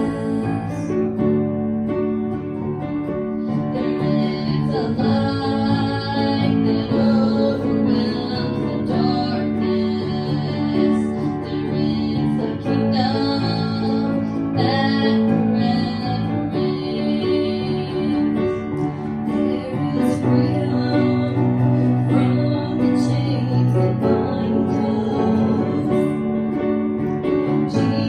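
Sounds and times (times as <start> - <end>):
women singing: 0.0 - 1.1, 3.7 - 26.4, 27.5 - 28.0
acoustic guitar: 0.0 - 28.0.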